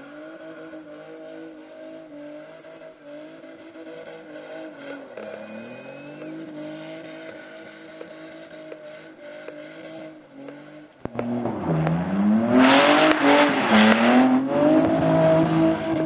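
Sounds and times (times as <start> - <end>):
car engine revving high: 0.0 - 16.0.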